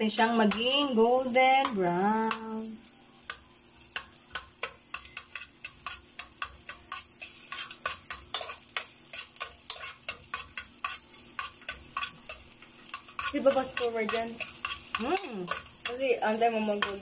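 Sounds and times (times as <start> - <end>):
garlic sizzling in oil: 0.0 - 17.0
utensil scraping a pot: 1.6 - 17.0.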